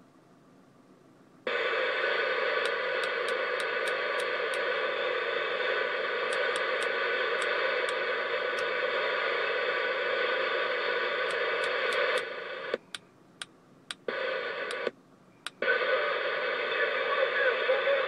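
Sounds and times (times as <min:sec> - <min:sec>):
radio static hiss: 0:01.5 - 0:13.0, 0:13.9 - 0:18.0.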